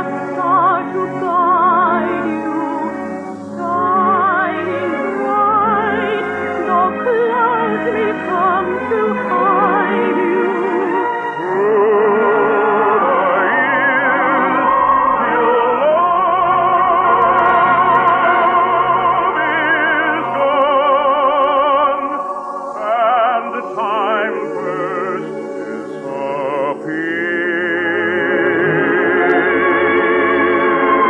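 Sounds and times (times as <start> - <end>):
operatic singing: 0.0 - 31.0
orchestra: 0.0 - 31.0.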